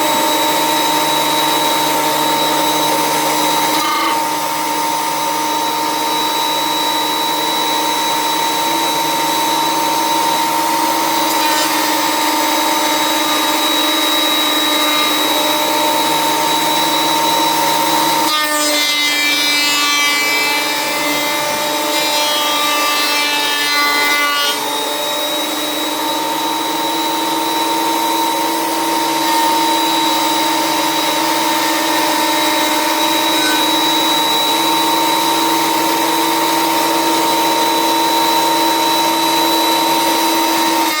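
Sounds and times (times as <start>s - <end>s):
electric power tool whining: 0.0s - 41.0s.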